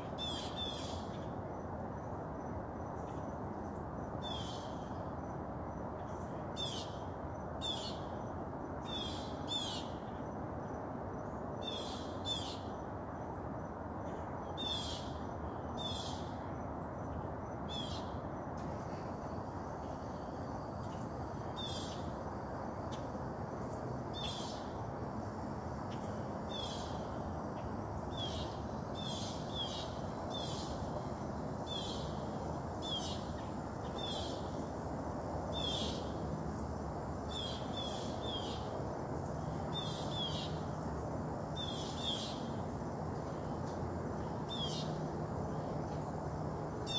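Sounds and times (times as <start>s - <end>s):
low rushing background noise: 0.0s - 46.9s.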